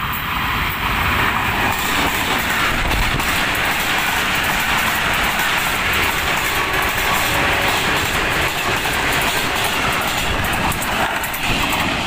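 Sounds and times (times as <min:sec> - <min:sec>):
train passing at speed: 0:00.0 - 0:12.0
wheels clacking over rails: 0:01.3 - 0:12.0.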